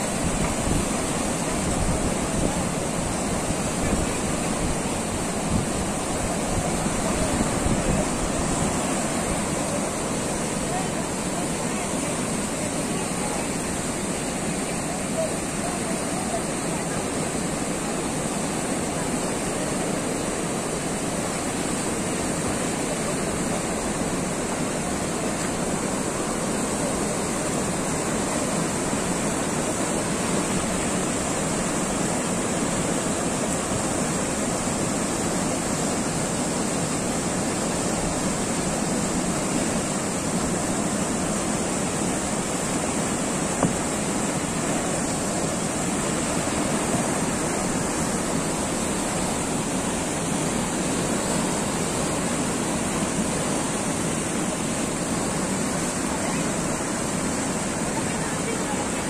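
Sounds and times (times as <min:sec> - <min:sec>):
whitewater rushing through rapids: 0:00.0 - 0:59.0.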